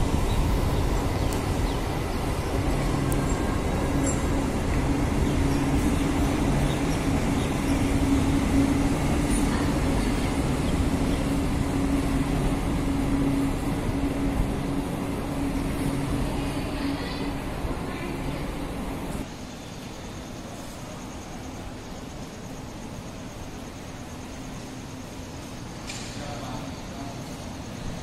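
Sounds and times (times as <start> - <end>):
electric train running past: 0.0 - 28.0.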